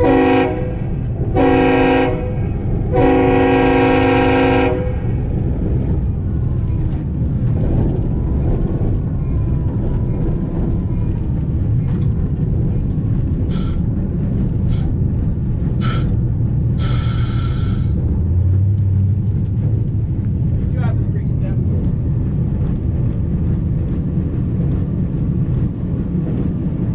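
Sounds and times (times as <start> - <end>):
diesel locomotive rolling: 0.0 - 26.9.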